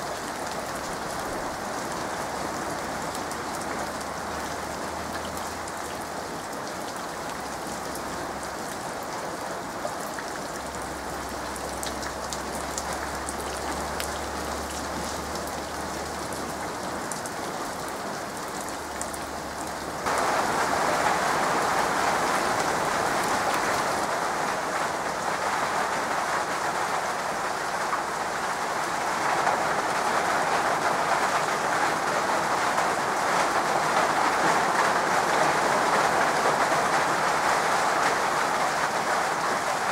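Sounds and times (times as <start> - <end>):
rain falling on a puddle: 0.0 - 39.9.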